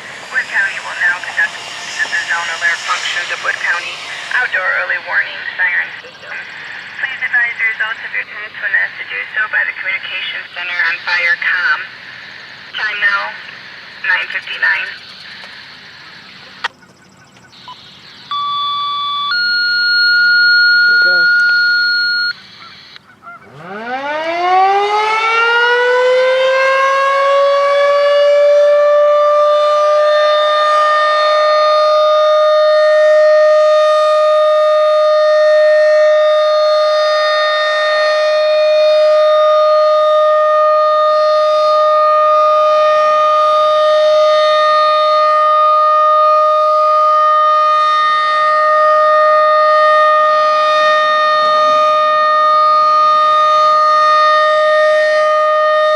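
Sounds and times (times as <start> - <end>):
outdoor warning siren winding up: 0.0 - 7.0, 10.9 - 55.9.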